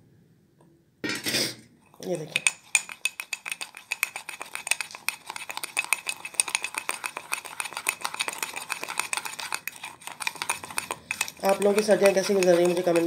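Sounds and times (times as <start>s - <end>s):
spoon clinking and scraping cup: 1.2s - 13.0s.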